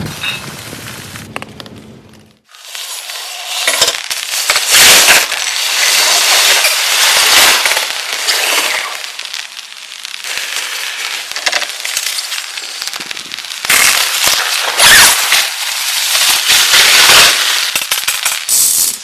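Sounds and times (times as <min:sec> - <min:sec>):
heavy rain on tarp: 0:00.0 - 0:01.5, 0:02.4 - 0:19.0.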